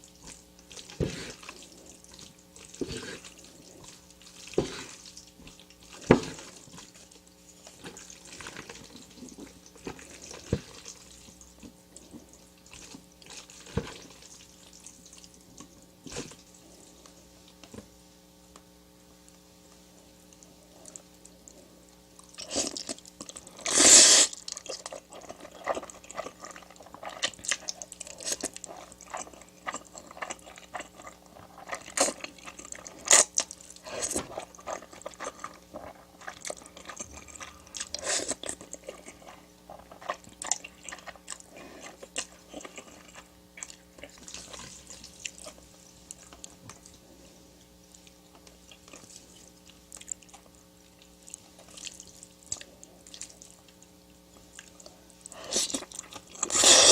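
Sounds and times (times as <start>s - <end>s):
chewing and crunching food: 0.0s - 17.9s, 18.6s - 56.9s
faint steady hum: 0.0s - 56.9s.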